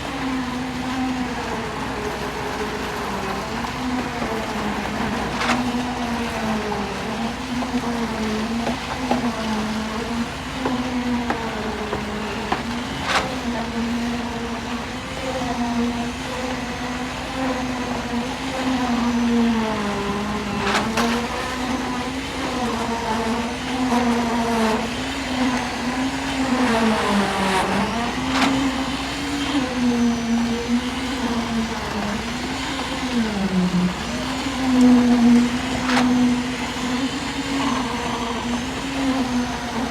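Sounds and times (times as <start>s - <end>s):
machinery motor humming: 0.0s - 39.9s.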